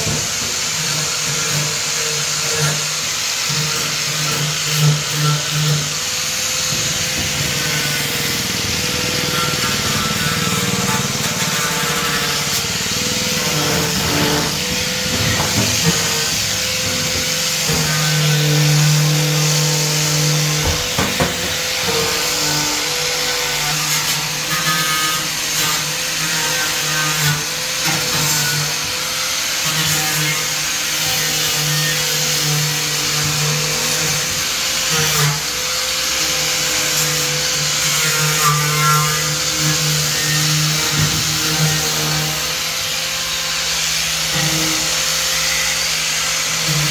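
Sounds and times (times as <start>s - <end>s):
power tool whining: 0.0s - 46.9s.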